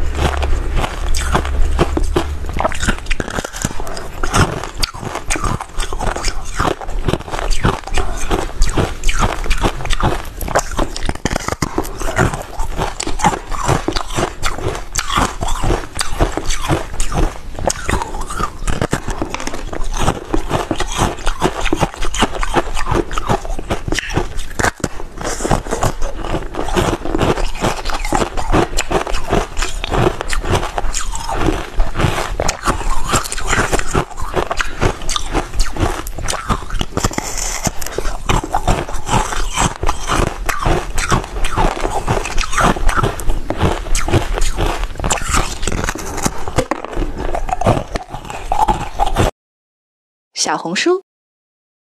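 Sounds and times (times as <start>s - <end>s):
chewing crunchy frozen ice: 0.0s - 49.3s.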